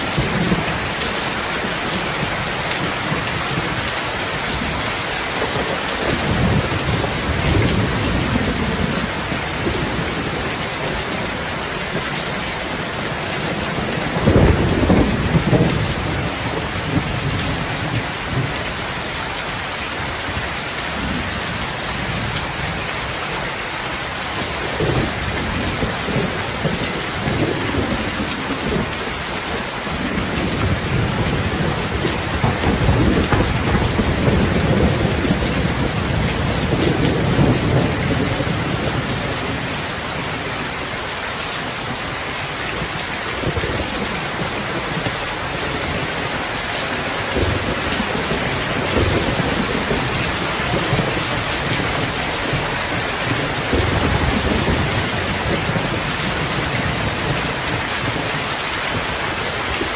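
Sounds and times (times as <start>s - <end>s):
rolling thunder rumble: 0.0s - 18.7s, 24.4s - 40.7s, 42.8s - 59.9s
heavy rain hissing: 0.0s - 59.9s.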